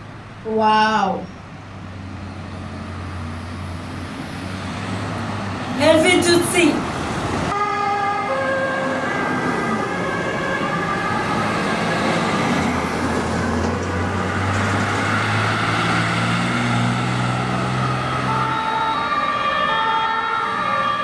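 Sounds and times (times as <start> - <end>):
truck engine: 0.0 - 0.6, 1.3 - 21.0
fire truck siren: 1.8 - 21.0.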